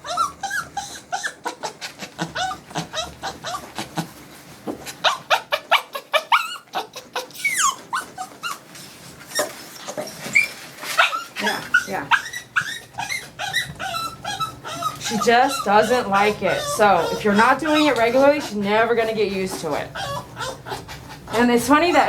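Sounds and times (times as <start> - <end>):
small dog crying: 0.0 - 4.2, 4.8 - 22.0
dog high whine: 0.0 - 22.0.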